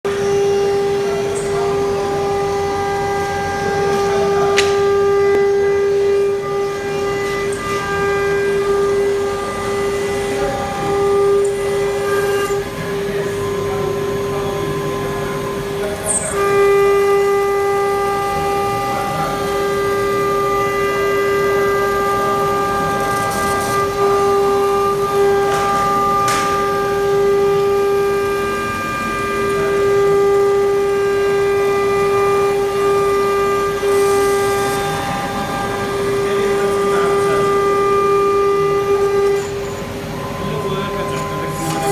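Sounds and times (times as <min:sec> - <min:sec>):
router spindle whining: 0:00.0 - 0:41.9.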